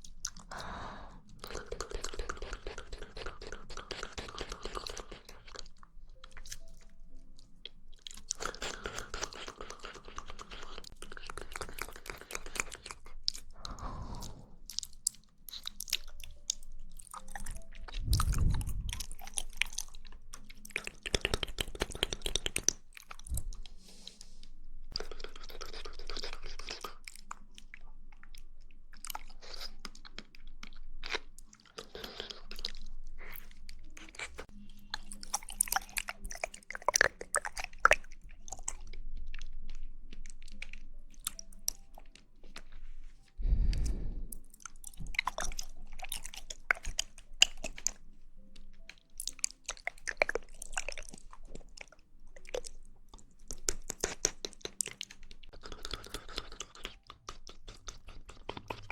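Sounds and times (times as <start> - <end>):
wet chewing and smacking: 0.0 - 58.9.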